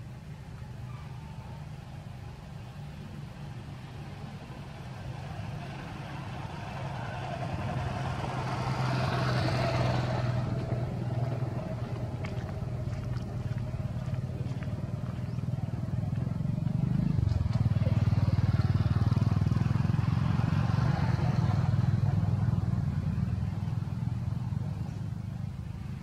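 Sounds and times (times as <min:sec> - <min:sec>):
vehicle engine passing: 0:02.6 - 0:26.0.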